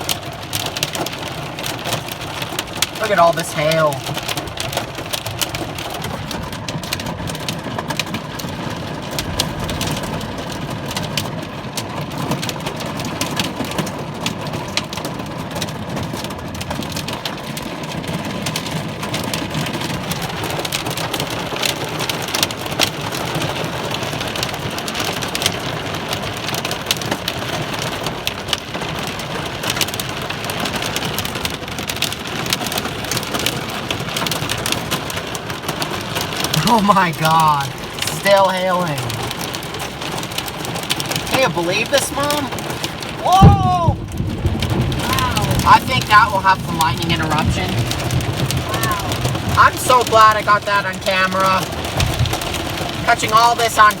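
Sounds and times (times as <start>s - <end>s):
heavy rain hiss: 0.0s - 6.6s, 16.0s - 54.0s
hailstones striking hard surfaces: 0.0s - 54.0s.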